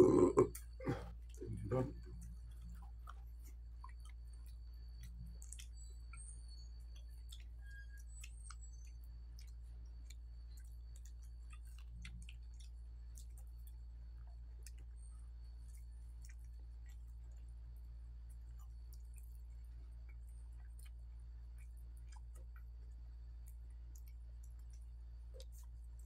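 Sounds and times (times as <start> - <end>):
chewing with wet mouth clicks: 0.0 - 26.0
steady low hum: 0.0 - 26.0.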